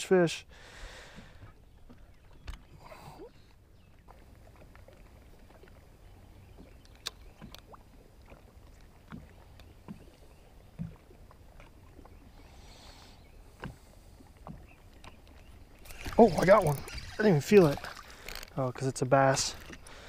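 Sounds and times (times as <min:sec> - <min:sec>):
water lapping against hull: 0:00.4 - 0:20.0.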